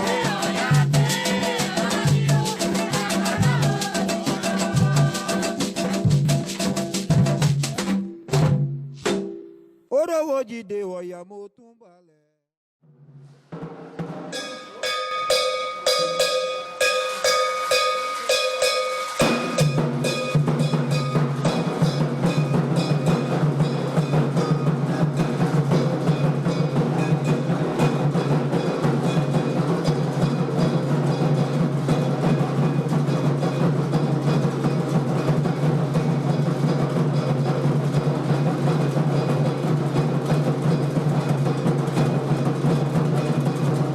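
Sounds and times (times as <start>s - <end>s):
hand drums drumming: 0.0s - 9.5s, 13.6s - 43.9s.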